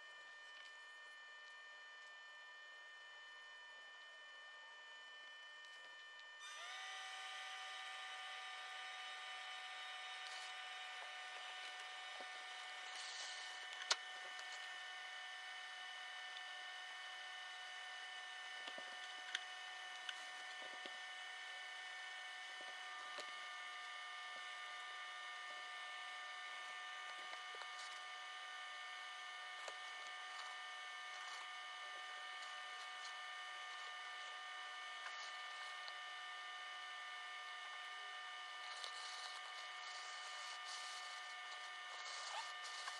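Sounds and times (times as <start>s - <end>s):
high electrical whine: 0.0s - 42.9s.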